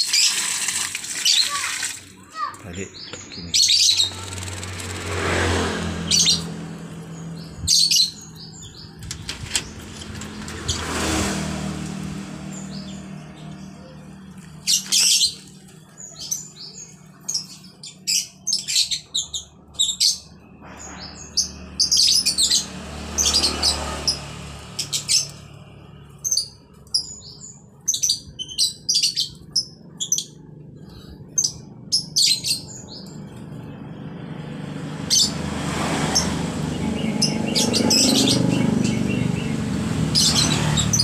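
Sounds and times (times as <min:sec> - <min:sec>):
starling chirping: 0:02.4 - 0:33.8, 0:34.9 - 0:41.0.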